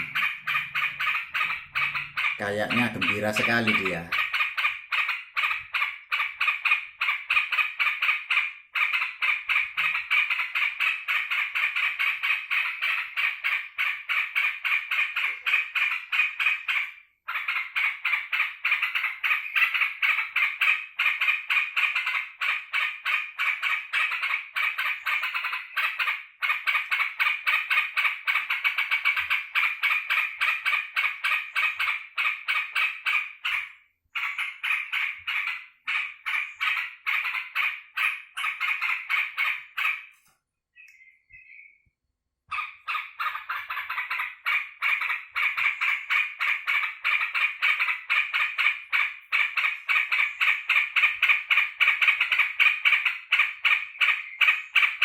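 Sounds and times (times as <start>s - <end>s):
bulbul chattering call: 0.0s - 40.2s, 42.5s - 55.0s.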